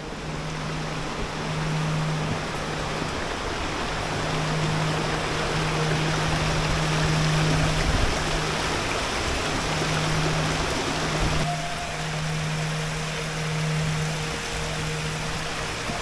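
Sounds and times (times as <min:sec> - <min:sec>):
low steady hum: 0:00.0 - 0:16.0
stream water rushing: 0:00.0 - 0:16.0.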